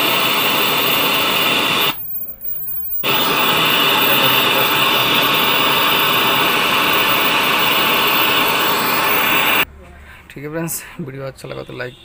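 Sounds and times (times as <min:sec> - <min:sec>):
television static hiss: 0:00.0 - 0:09.6.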